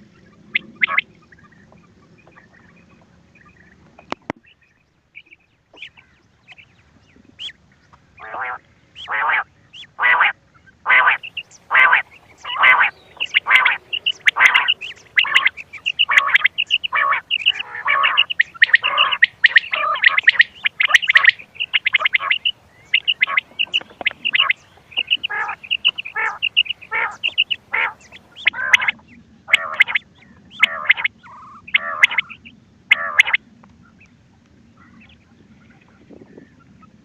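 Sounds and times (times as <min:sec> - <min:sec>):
harsh quail calls: 0:00.1 - 0:07.6, 0:08.2 - 0:34.1.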